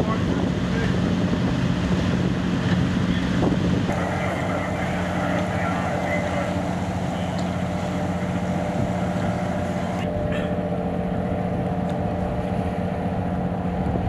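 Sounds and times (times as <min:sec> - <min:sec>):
boat engines droning: 0:00.0 - 0:14.0
water and wind hiss: 0:00.0 - 0:14.0.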